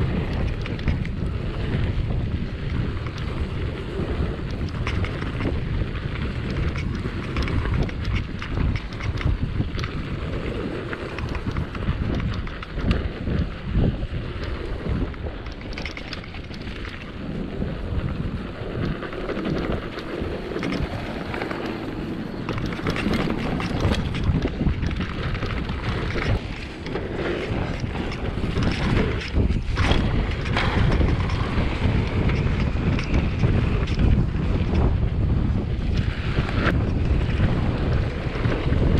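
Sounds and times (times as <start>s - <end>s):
bike clicks and rattles: 0.0s - 38.9s
tyre rumble: 0.0s - 38.9s
wind buffeting microphone: 0.0s - 38.9s.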